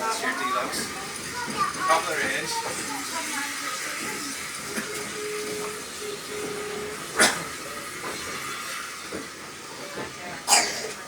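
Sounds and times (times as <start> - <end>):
train hiss and rumble: 0.0 - 11.0.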